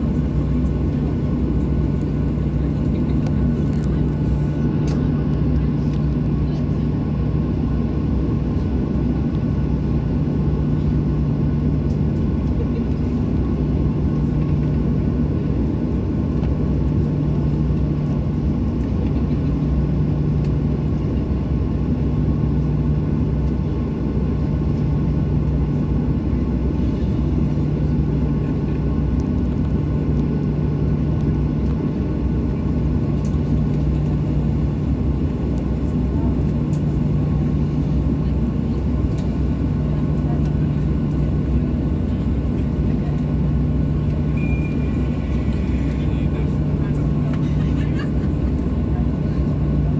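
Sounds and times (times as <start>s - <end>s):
constant low hum: 0.0s - 49.9s
jet engines rumbling: 0.0s - 49.9s.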